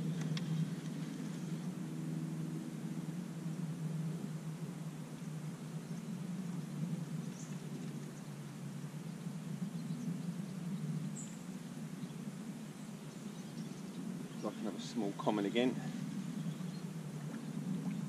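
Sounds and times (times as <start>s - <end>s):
outdoor background rumble: 0.0s - 18.0s.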